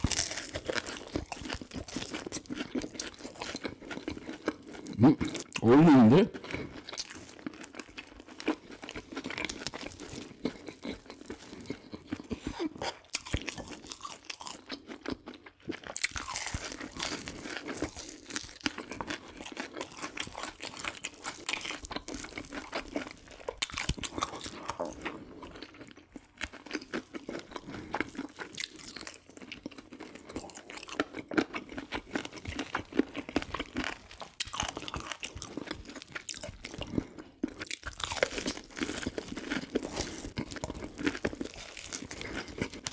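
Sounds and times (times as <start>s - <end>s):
crunchy chewing of fried chicken: 0.0s - 42.9s.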